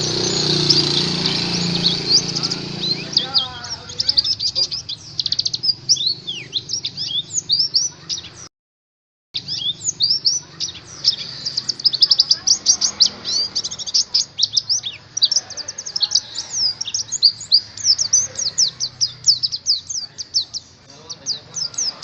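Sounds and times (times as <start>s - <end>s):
bird song high chirps and whistles: 0.0s - 8.5s, 9.4s - 22.0s.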